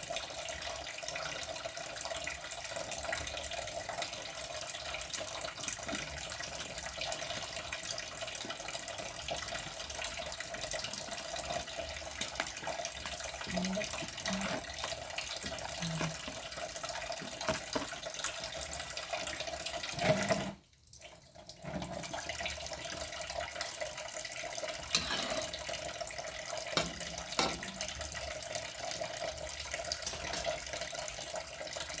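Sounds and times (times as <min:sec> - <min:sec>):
tap water running into sink: 0:00.0 - 0:32.0.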